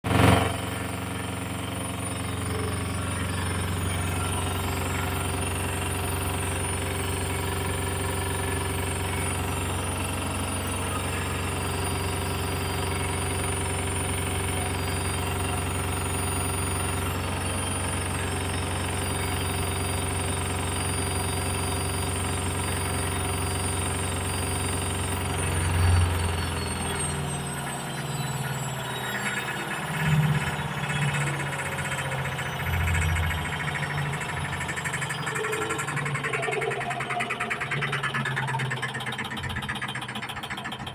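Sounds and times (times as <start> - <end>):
washing machine spin cycle: 0.0 - 40.9.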